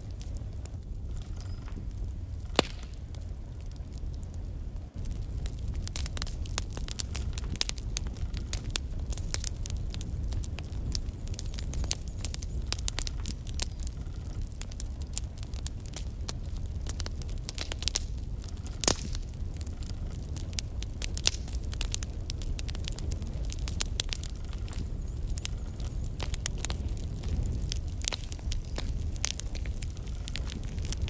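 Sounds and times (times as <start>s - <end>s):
logs crackling and popping: 0.0s - 31.0s
low rumble of flames: 0.0s - 31.0s.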